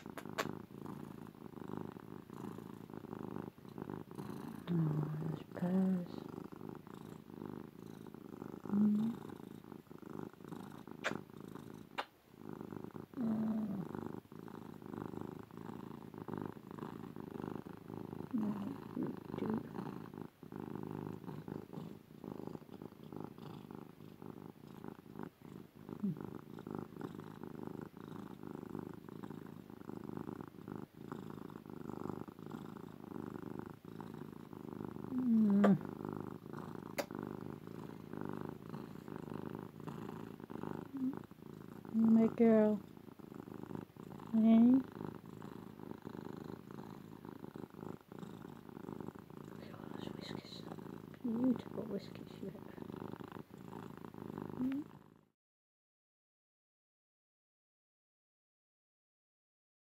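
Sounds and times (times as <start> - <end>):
cat purring loudly: 0.0 - 55.4.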